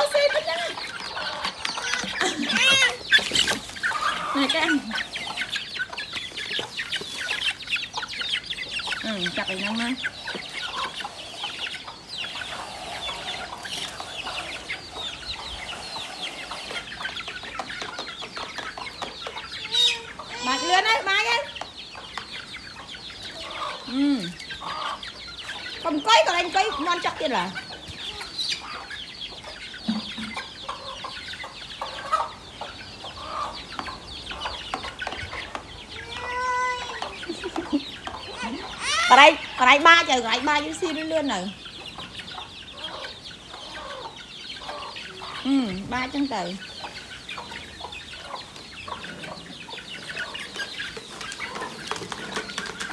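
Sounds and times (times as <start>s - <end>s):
young chickens peeping: 0.0s - 52.9s.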